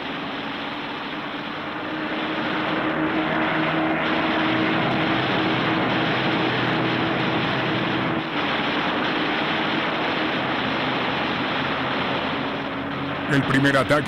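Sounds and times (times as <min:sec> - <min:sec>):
propeller aircraft engine drone: 0:00.0 - 0:14.0
wind-like rushing noise: 0:00.0 - 0:14.0.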